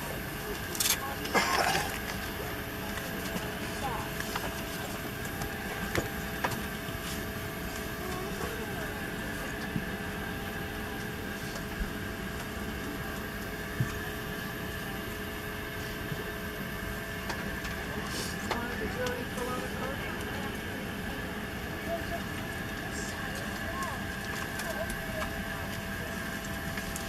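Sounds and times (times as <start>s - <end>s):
aircraft engine and airflow drone: 0.0s - 27.0s.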